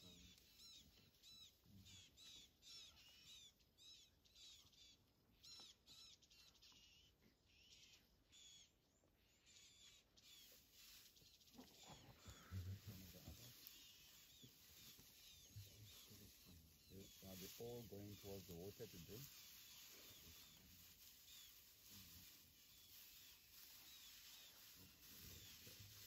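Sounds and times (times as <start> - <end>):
short arched bird chirps: 0.1 - 26.0.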